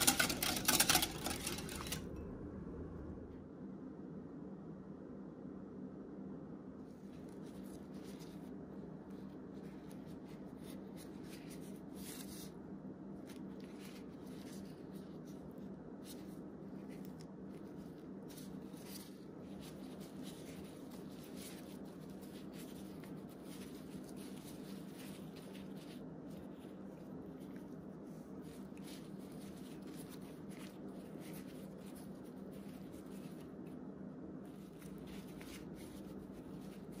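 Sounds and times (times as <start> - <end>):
plastic gloves rustling: 0.0 - 2.2, 6.8 - 37.0
steady low hum: 0.0 - 37.0.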